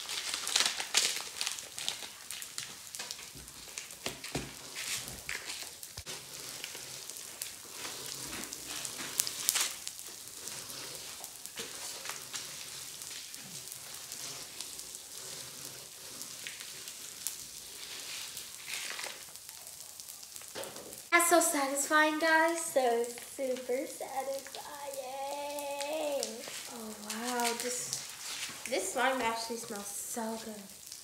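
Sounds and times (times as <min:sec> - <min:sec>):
popping candy crackling: 0:00.0 - 0:31.0.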